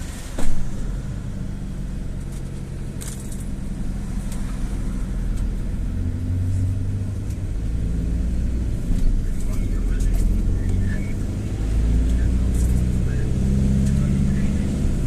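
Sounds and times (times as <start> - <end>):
minibus engine and road rumble: 0.0 - 15.0.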